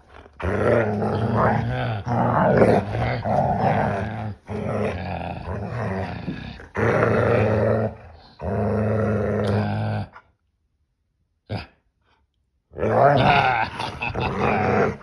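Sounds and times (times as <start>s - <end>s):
dog growling: 0.0s - 10.3s, 12.8s - 15.0s.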